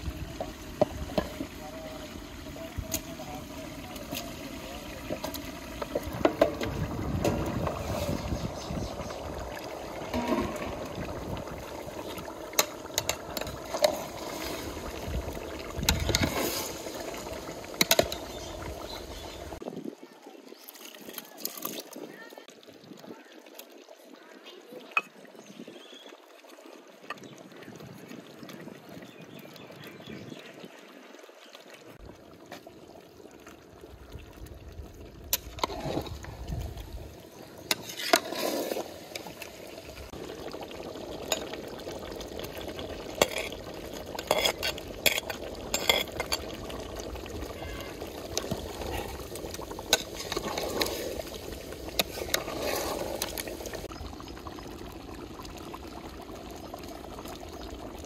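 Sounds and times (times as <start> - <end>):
liquid bubbling in a pot: 0.0 - 58.0.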